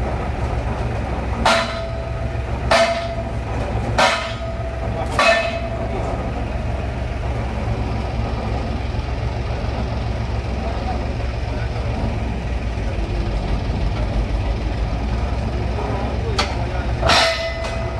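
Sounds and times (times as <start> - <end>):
engine running steadily: 0.0 - 17.9.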